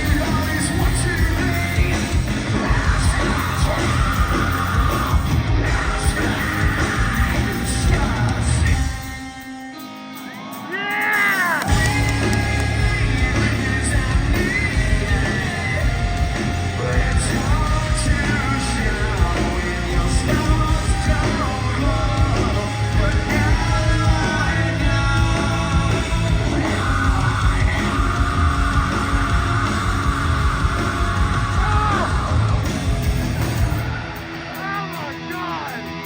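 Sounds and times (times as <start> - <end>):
sung and yelled vocals: 0.0 - 9.6, 10.2 - 36.0
rock band playing live: 0.0 - 36.0.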